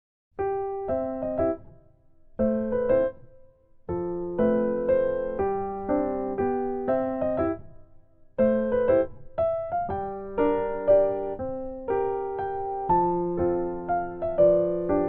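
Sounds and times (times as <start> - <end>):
gentle piano music: 0.4 - 15.0.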